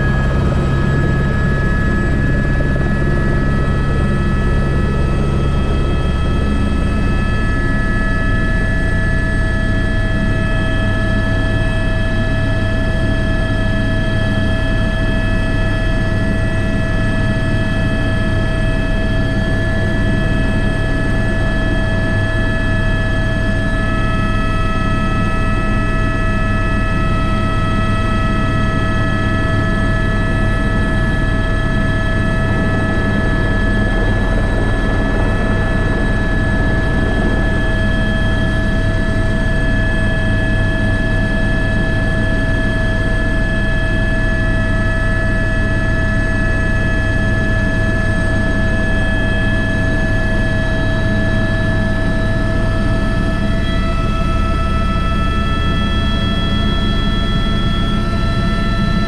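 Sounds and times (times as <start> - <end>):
helicopter rotor beat: 0.0 - 59.0
helicopter turbine whine: 0.0 - 59.0.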